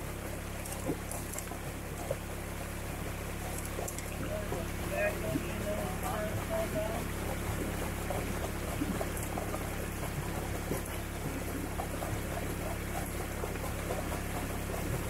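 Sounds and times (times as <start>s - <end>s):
creek water burbling: 0.0s - 15.0s
pan swirled underwater: 0.0s - 15.0s.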